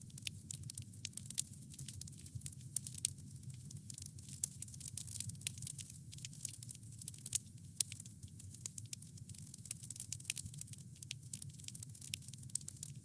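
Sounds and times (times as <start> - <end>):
wood crackling and popping: 0.0 - 13.0.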